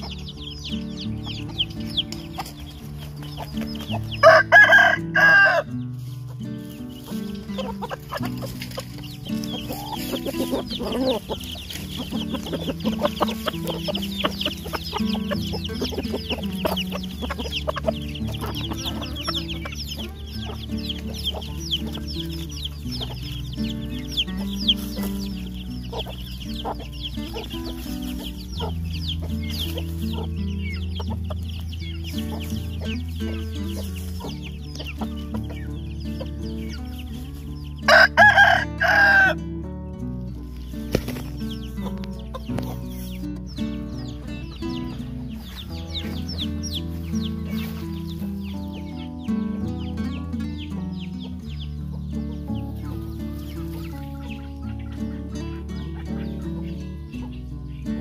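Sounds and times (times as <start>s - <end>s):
background music: 0.0s - 58.0s
chickens clucking: 0.0s - 58.0s.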